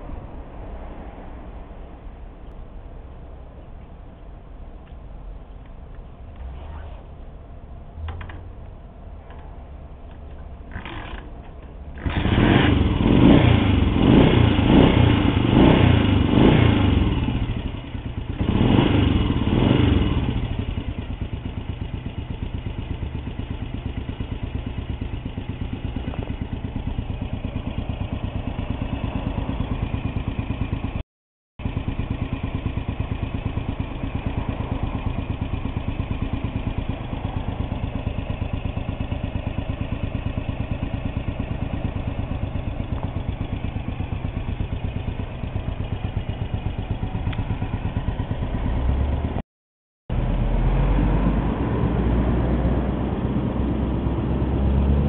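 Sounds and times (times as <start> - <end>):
motorcycle engine revving and idling: 7.9 - 31.0, 31.6 - 49.4, 50.1 - 55.0.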